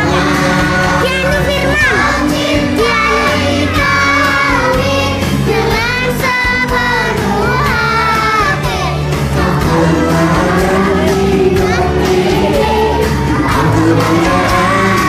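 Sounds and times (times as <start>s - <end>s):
child singing devotional song: 0.0s - 9.0s, 10.0s - 15.0s
instrumental backing: 0.0s - 15.0s.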